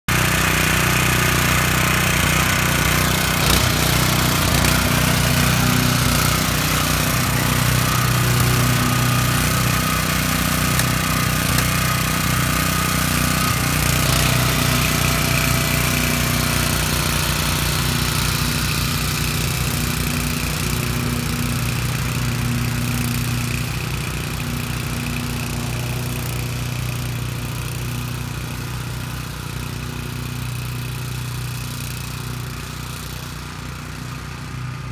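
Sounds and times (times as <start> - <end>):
small tractor engine running: 0.1 - 34.9.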